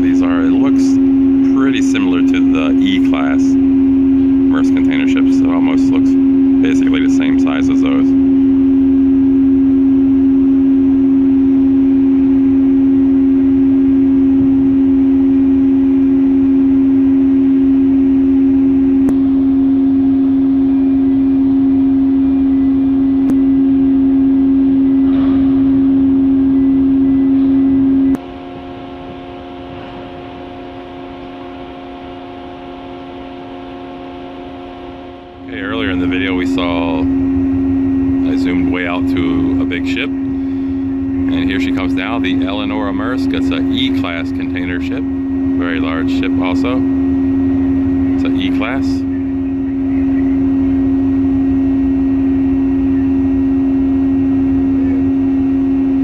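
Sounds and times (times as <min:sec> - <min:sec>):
ship machinery hum: 0:00.0 - 0:56.0.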